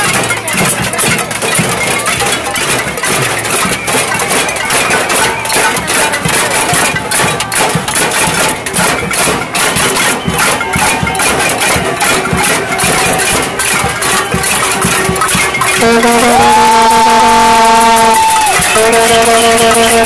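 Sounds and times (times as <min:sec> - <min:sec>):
crowd banging pots and pans: 0:00.0 - 0:20.0.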